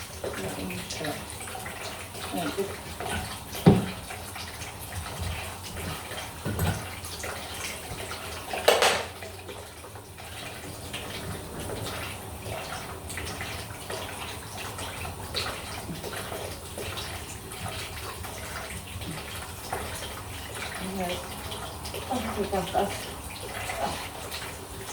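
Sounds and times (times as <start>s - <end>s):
water splashing from pipe: 0.0s - 24.9s.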